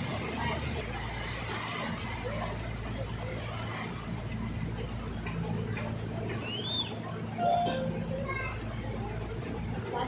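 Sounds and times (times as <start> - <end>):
boat engine humming: 0.0 - 10.0
water and wind noise: 0.0 - 10.0.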